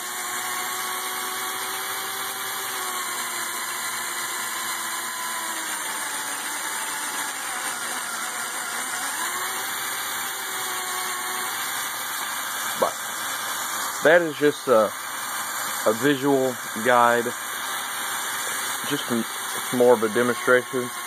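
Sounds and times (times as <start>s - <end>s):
plastic gears whirring: 0.0s - 21.0s.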